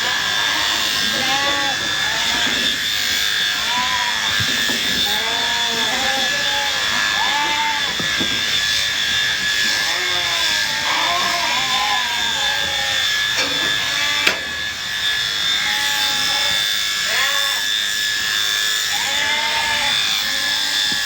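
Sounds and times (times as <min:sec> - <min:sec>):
electric sheep shears whining: 0:00.0 - 0:21.0.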